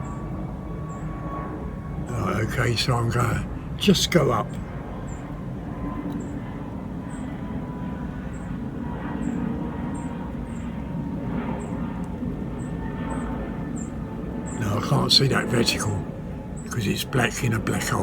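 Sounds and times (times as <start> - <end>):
low rumble of outdoor noise: 0.0 - 18.0.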